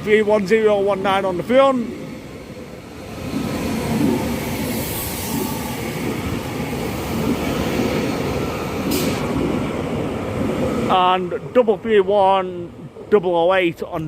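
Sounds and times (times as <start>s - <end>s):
faint steady whine: 0.0s - 14.0s.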